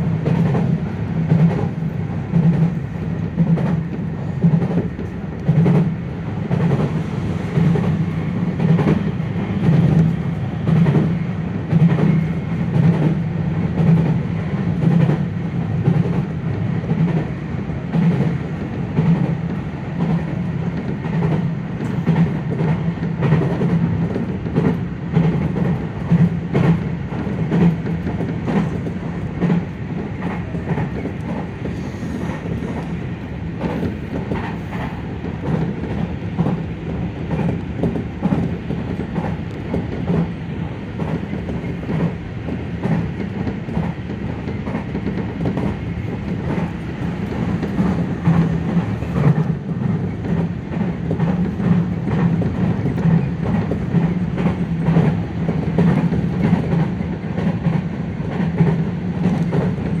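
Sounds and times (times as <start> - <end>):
train rolling rumble: 0.0 - 60.0.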